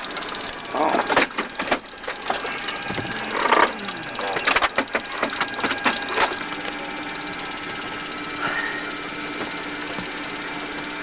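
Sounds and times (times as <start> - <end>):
machine buzzing and rattling: 0.0 - 11.0.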